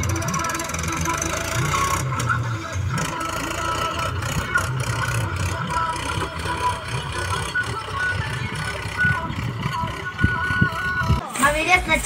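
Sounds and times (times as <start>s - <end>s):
cultivator through dry soil: 0.0s - 12.0s
tractor diesel engine running: 0.0s - 12.0s.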